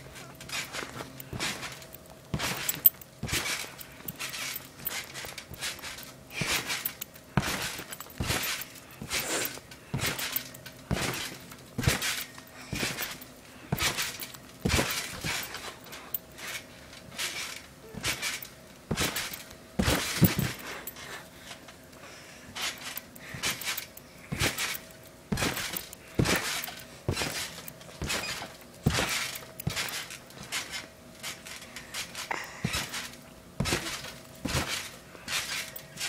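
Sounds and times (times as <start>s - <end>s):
trampoline springs creaking: 0.0s - 36.0s
trampoline mat thumping: 0.2s - 20.8s, 22.5s - 36.0s.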